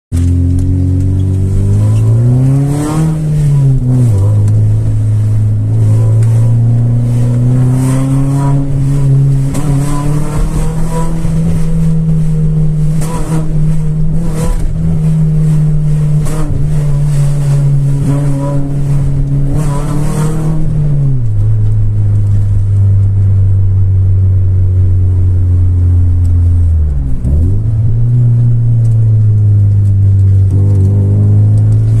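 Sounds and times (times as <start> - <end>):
car engine running loudly: 0.1 - 32.0.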